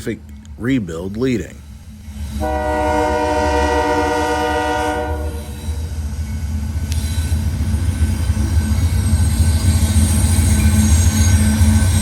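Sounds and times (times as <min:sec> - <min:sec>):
locomotive engine rumble: 0:00.0 - 0:12.0
train wheels on rails: 0:00.0 - 0:12.0.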